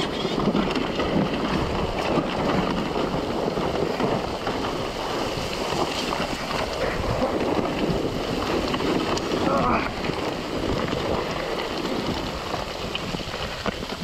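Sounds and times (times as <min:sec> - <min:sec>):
tyres crunching on gravel: 0:00.0 - 0:14.0
wind on microphone: 0:00.0 - 0:14.0.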